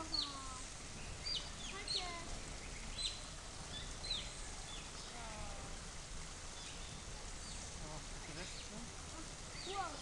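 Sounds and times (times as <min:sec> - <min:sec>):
otters chirping: 0:00.0 - 0:05.3, 0:06.5 - 0:10.0.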